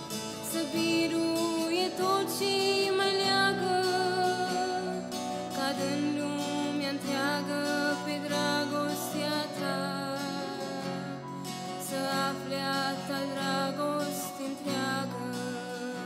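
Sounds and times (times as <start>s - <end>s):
acoustic guitar accompaniment: 0.0s - 16.0s
woman singing a hymn: 0.3s - 16.0s.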